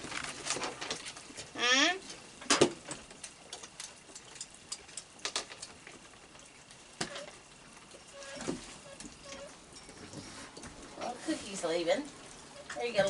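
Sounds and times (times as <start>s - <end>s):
light rain patter: 0.0s - 13.0s.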